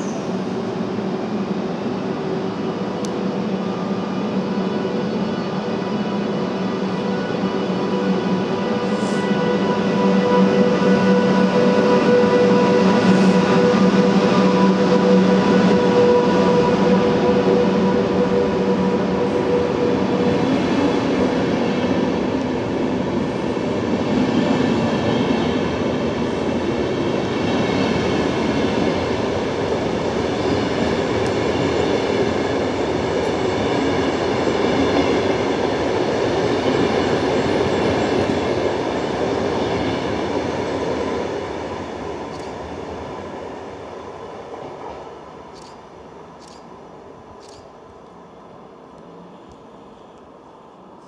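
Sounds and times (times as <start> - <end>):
train wheels on rail: 0.0 - 51.0.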